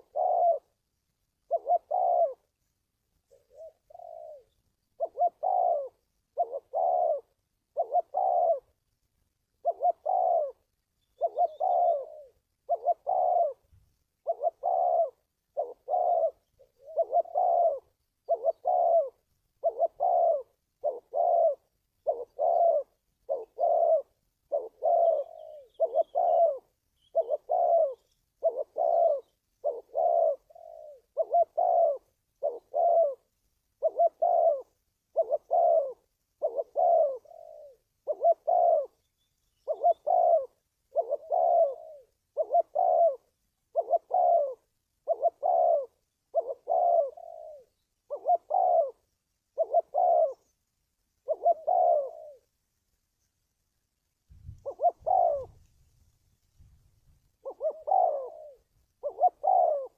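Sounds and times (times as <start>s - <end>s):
dove cooing: 0.0s - 52.6s, 54.4s - 55.9s, 57.0s - 59.9s.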